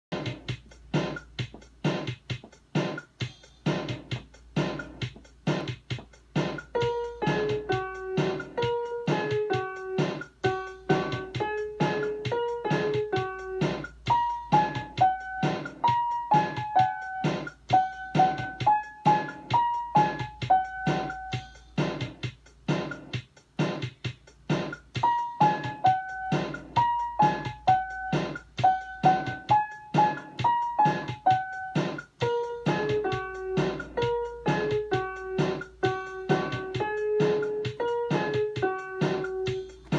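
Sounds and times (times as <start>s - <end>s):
electronic keyboard melody: 0.1s - 39.9s
steady beat: 0.1s - 39.9s.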